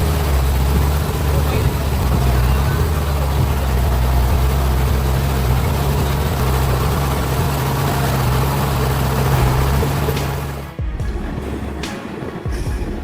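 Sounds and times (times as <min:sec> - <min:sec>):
heavy vehicle engine droning: 0:00.0 - 0:13.0.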